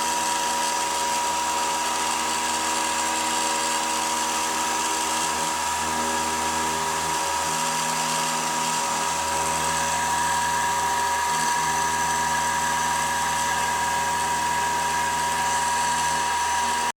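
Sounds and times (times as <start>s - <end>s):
bit grinding stone: 0.0s - 16.9s
stone router spindle whine: 0.0s - 16.9s.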